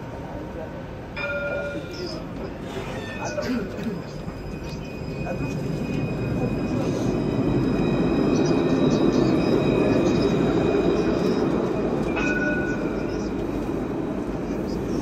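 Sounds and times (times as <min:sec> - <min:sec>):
tram rumbling past: 0:00.0 - 0:15.0
wheels squealing on rail: 0:01.7 - 0:15.0.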